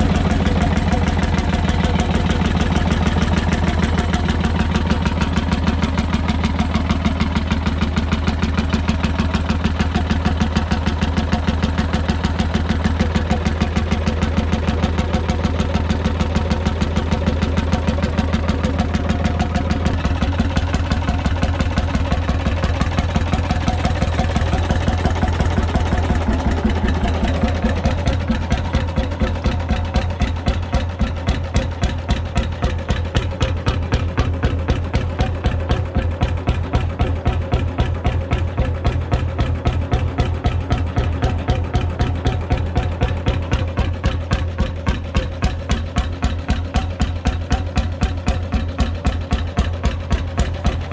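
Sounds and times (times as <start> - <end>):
two-stroke diesel engine running: 0.0 - 50.9.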